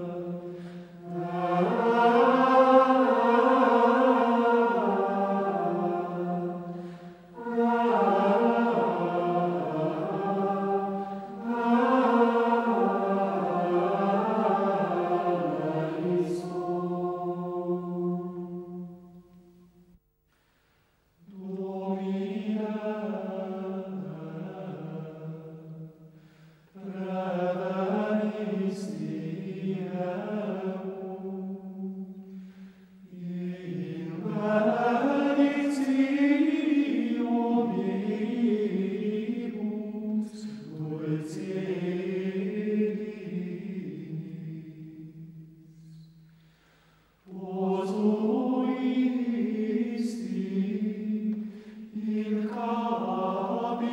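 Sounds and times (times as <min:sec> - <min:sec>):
voices chanting in unison: 0:00.0 - 0:18.9, 0:21.3 - 0:53.9.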